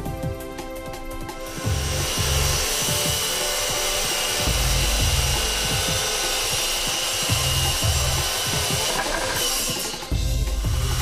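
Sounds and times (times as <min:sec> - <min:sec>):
background music bass beat: 0:00.0 - 0:11.0
circular saw cutting wood: 0:00.0 - 0:11.0.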